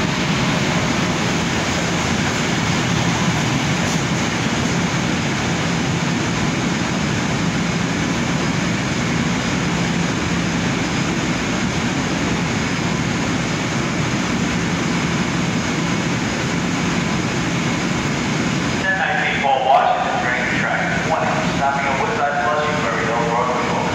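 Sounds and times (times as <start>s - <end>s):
electric train pulling away: 0.0s - 23.9s
low steady hum: 0.0s - 23.9s.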